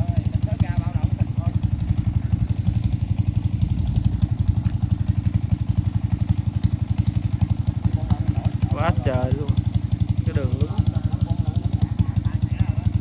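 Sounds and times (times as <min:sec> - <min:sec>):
engine chugging: 0:00.0 - 0:13.0.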